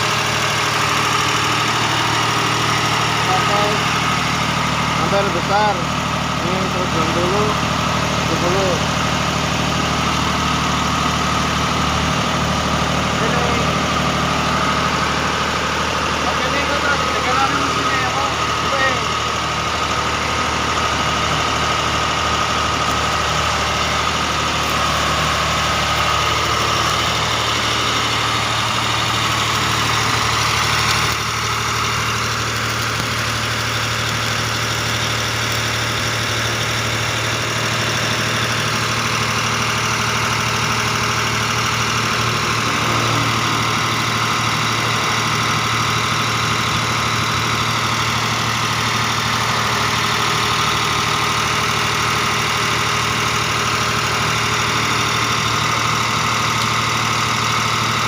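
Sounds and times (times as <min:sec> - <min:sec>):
welding machine engine idling: 0:00.0 - 0:58.0.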